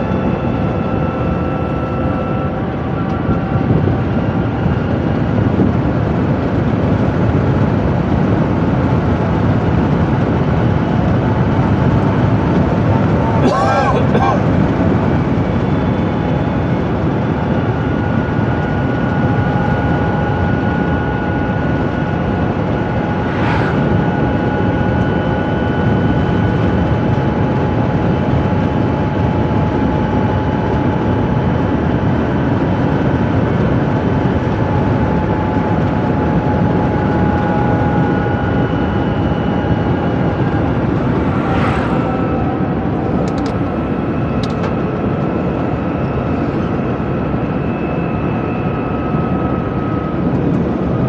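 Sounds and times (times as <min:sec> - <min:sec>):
road and wind noise in car: 0:00.0 - 0:51.0.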